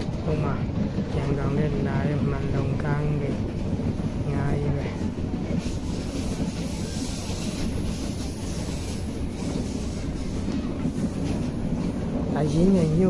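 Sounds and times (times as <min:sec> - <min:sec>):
moving passenger train rumble: 0:00.0 - 0:13.0.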